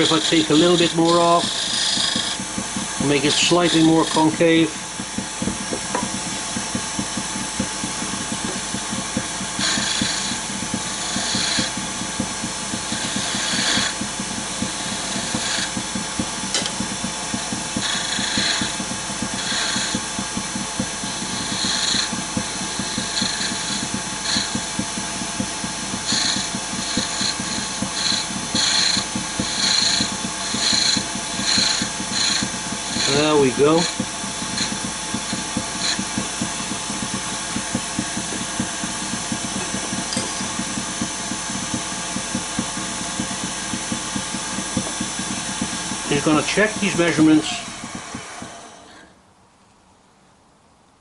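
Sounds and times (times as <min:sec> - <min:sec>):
turning tool cutting wood hiss: 0:00.0 - 0:49.2
wood lathe running: 0:00.0 - 0:49.2.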